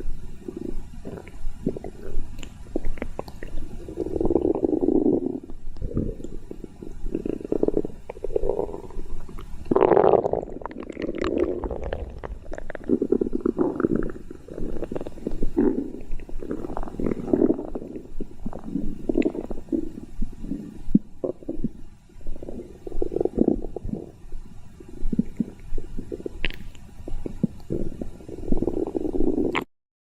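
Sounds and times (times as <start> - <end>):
stomach growling: 0.0 - 29.7.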